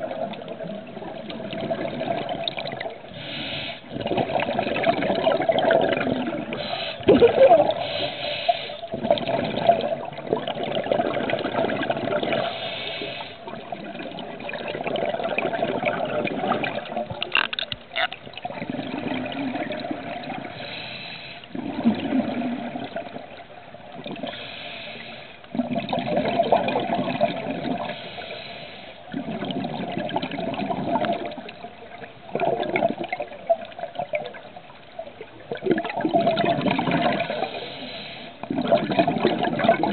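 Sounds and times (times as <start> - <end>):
exhaled bubbles rushing underwater: 0.0 - 17.3, 17.9 - 39.9.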